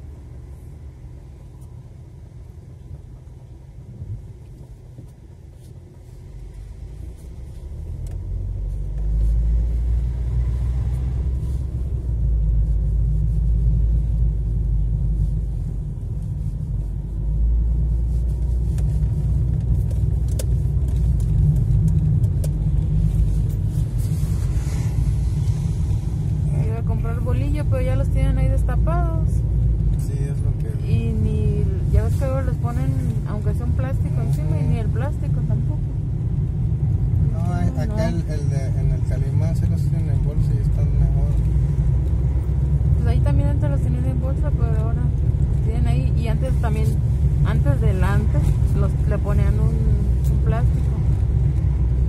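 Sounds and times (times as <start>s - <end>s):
car engine and tyres rumbling: 0.0s - 52.0s.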